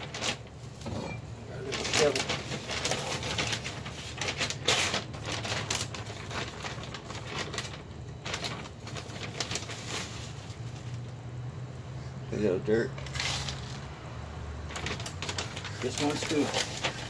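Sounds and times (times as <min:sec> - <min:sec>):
rustling of potting mix: 0:00.0 - 0:11.2, 0:12.9 - 0:14.0, 0:14.6 - 0:17.0.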